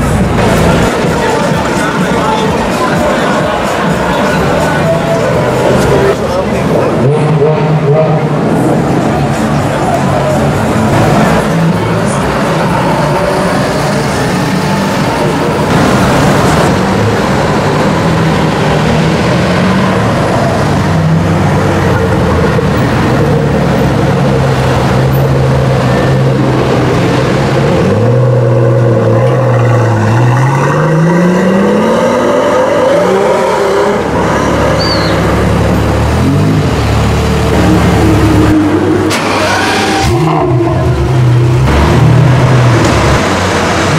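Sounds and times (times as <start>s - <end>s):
sports car engine accelerating: 0.0s - 43.9s.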